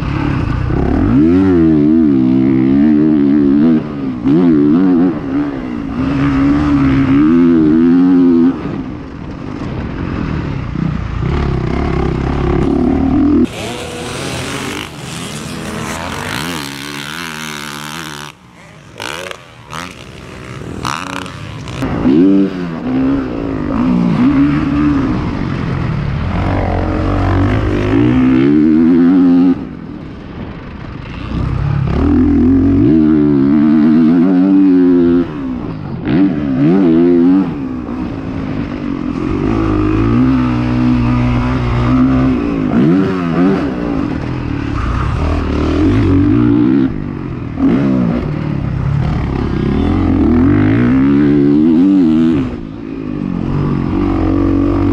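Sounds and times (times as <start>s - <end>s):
motocross bike engine revving: 0.0s - 8.9s, 10.1s - 29.8s, 30.8s - 54.9s.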